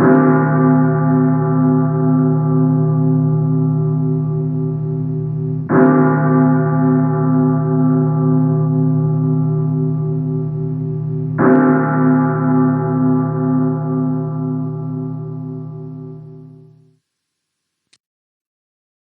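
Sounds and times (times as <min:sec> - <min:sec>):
large church bell tolling: 0:00.0 - 0:16.7.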